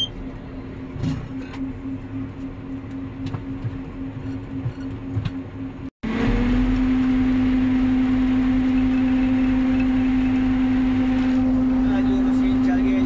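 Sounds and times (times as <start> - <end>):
harvester machine drone: 0.0 - 13.0.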